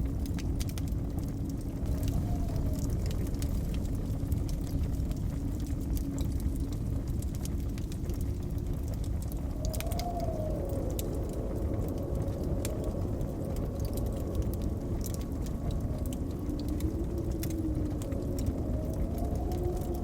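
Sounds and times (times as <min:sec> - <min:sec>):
blizzard wind howling: 0:00.0 - 0:20.0
wood fire crackling: 0:00.0 - 0:20.0.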